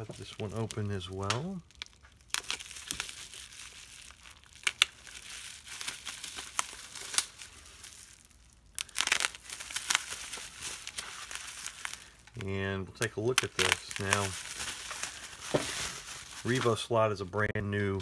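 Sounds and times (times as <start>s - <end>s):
bubble wrap crinkling: 0.0s - 18.0s.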